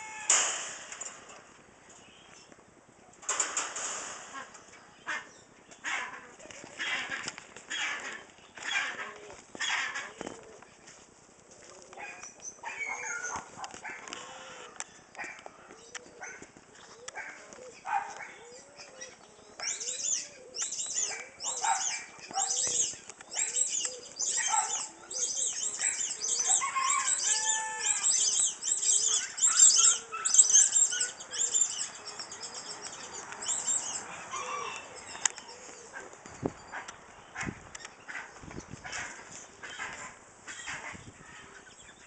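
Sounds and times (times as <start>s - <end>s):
chickens and ducks calling: 4.0s - 10.6s, 11.8s - 42.0s.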